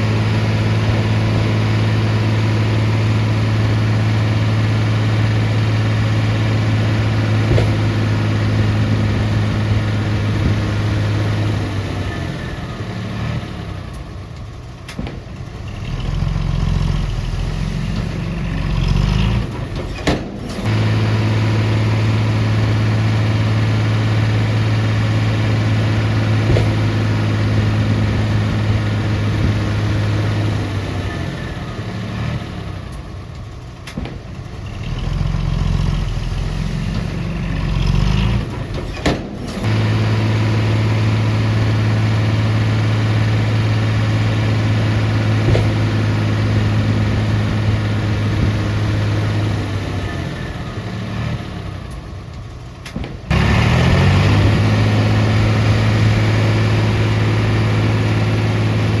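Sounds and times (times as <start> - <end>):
deeper engine note: 0.0 - 59.0
heavy diesel engine running: 0.0 - 59.0.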